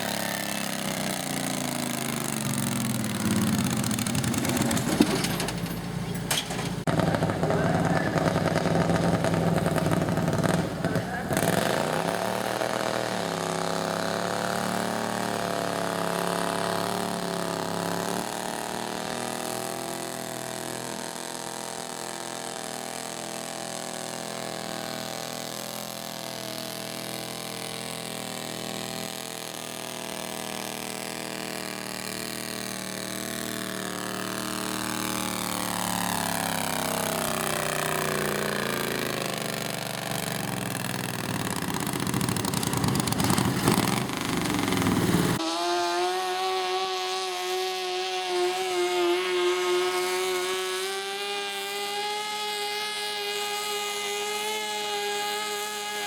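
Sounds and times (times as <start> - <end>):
garden tractor engine running: 0.0 - 45.4.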